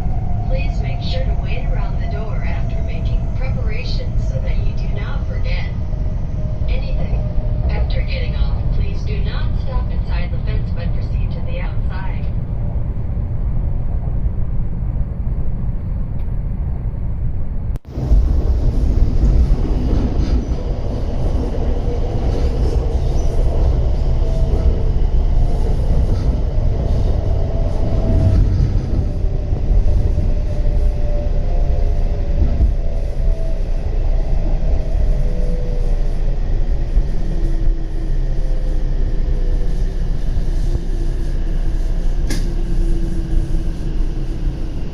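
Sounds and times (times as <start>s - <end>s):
train rumbling: 0.0s - 44.9s.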